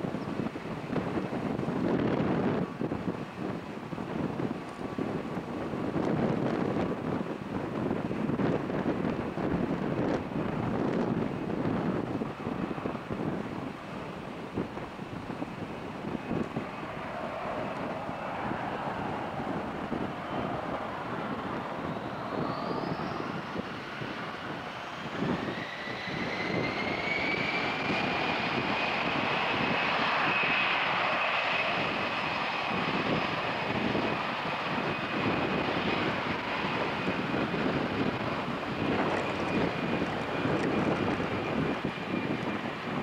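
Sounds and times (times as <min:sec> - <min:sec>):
jet engine whine: 0:00.0 - 0:43.0
jet roar: 0:00.0 - 0:43.0.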